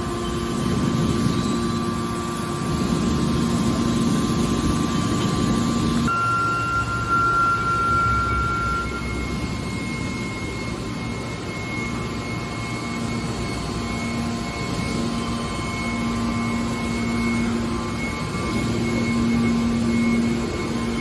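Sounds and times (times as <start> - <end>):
low motor and pump hum: 0.0 - 21.0
thin high whine: 0.0 - 21.0.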